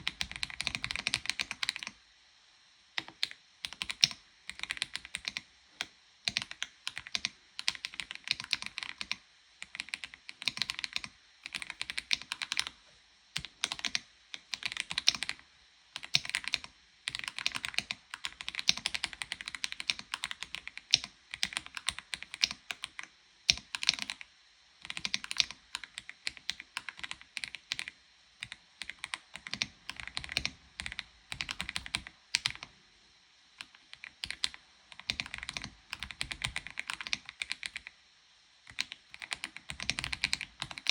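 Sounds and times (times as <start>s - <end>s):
typing on mechanical keyboard: 0.0s - 2.0s, 3.0s - 5.4s, 6.3s - 12.8s, 13.4s - 15.4s, 16.0s - 24.2s, 24.8s - 32.7s, 33.6s - 37.9s, 38.7s - 40.9s.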